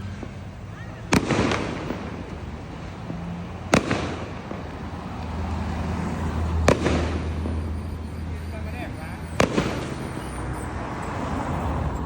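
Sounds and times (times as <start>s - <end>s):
fireworks bangs: 0.0s - 12.0s
fireworks crackle: 0.0s - 12.0s.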